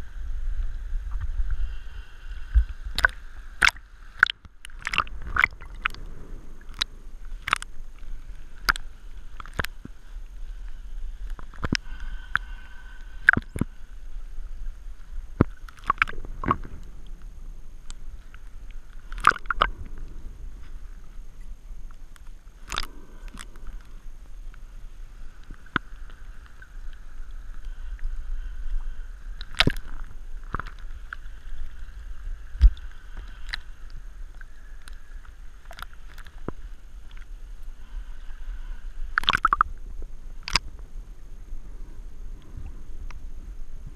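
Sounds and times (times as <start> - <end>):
water sloshing and gurgling: 0.0 - 43.2.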